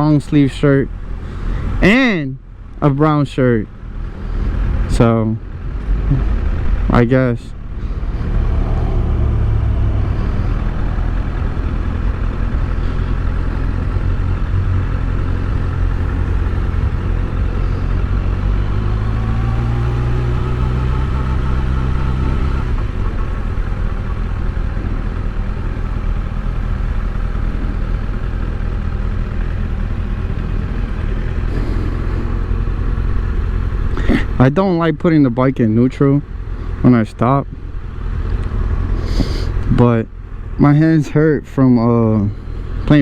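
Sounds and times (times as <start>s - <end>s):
motorcycle engine running: 3.7s - 43.0s.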